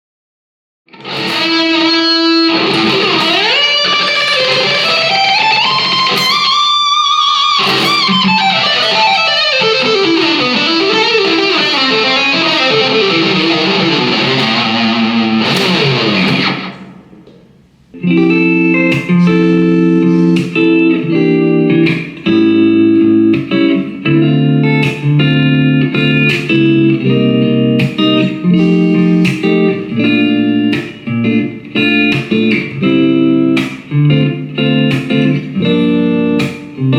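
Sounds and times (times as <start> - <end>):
electric guitar lead with slides: 0.9 - 36.9
electric guitar rhythmic chords: 0.9 - 36.9.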